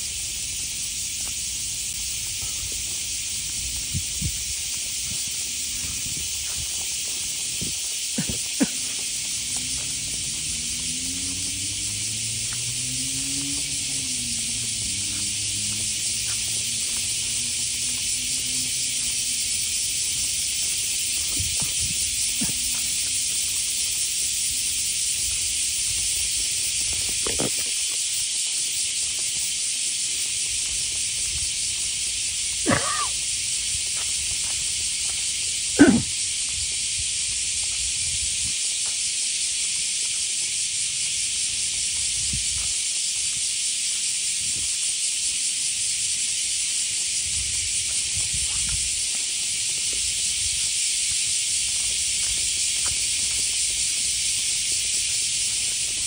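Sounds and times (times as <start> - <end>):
high-pitched outdoor hiss: 0.0 - 56.0.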